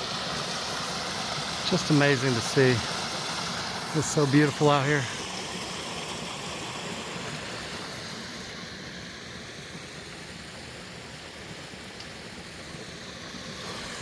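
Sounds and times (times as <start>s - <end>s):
waterfall and creek rushing: 0.0s - 14.0s.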